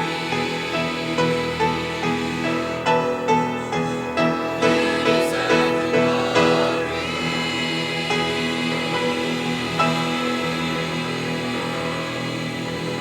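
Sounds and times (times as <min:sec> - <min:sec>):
slow keyboard music: 0:00.0 - 0:13.0.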